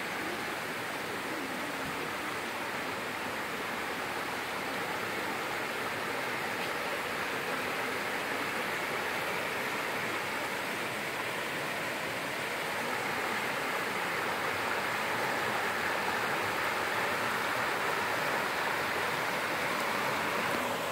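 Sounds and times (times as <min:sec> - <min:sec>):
stream rushing over rapids: 0:00.0 - 0:20.9.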